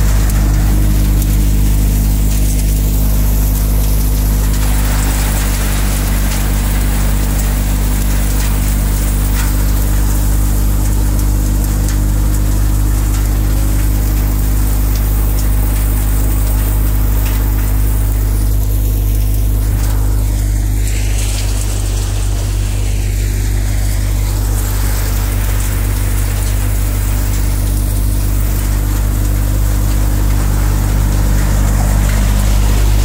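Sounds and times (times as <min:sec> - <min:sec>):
thresher machine hum: 0:00.0 - 0:33.0.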